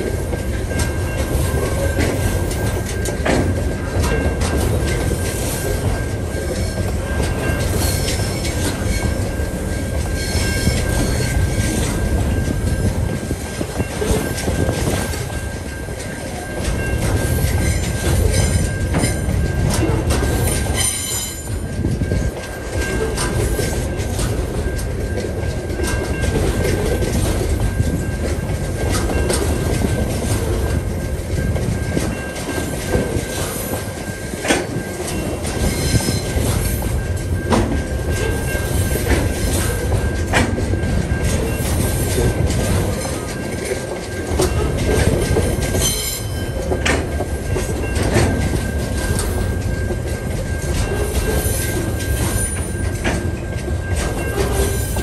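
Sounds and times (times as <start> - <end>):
crossing warning bell: 0.0 - 55.0
train wheels clattering on rail joints: 0.0 - 55.0.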